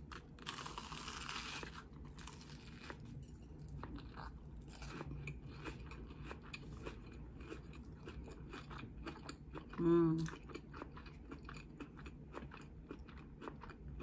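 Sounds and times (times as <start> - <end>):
chewing with crisp crunches: 0.0 - 14.0.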